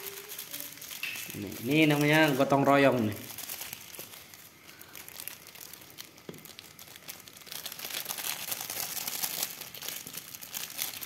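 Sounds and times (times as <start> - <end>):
plastic sachets crinkling: 0.0 - 11.0.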